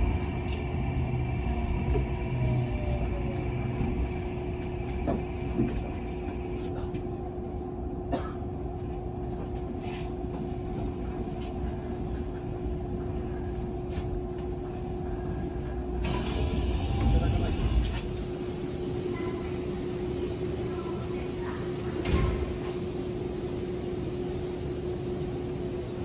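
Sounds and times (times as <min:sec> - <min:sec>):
train running rumble and hum: 0:00.0 - 0:26.0.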